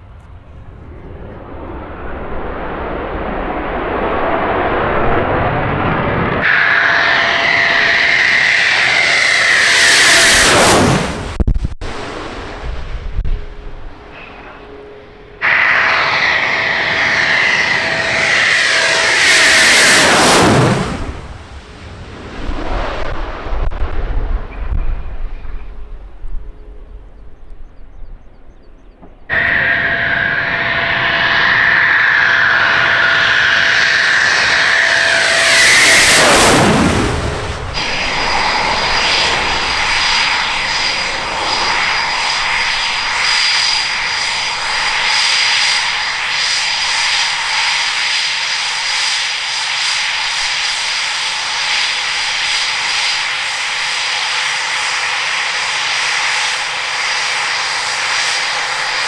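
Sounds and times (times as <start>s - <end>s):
jet engine roar passing by: 0.0s - 27.8s, 28.5s - 59.0s.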